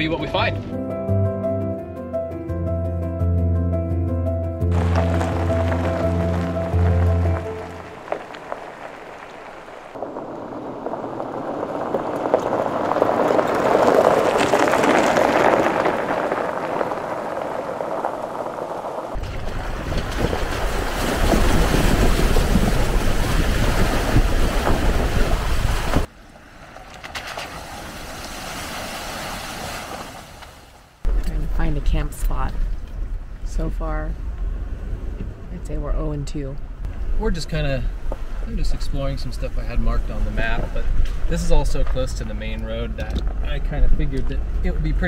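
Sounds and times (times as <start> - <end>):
heavy low rumble: 0.0 - 26.1, 31.1 - 45.0
tyres crunching on gravel: 4.7 - 33.4, 36.8 - 45.0
car rolling through shallow water: 4.7 - 34.0, 37.0 - 45.0.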